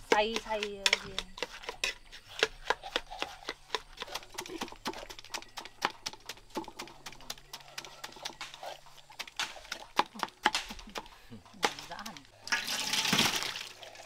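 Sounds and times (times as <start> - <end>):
knife chopping watermelon: 0.0 - 12.2.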